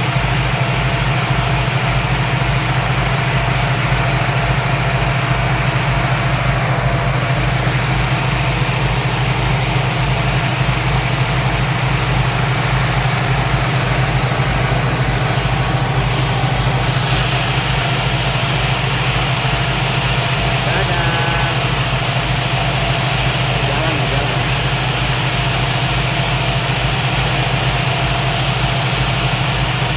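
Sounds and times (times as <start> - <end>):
speedboat engine drone: 0.0 - 29.9.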